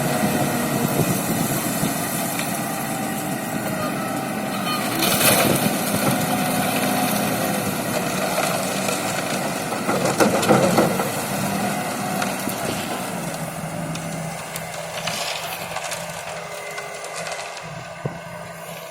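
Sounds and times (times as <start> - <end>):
concrete mixer engine running: 0.0 - 18.9.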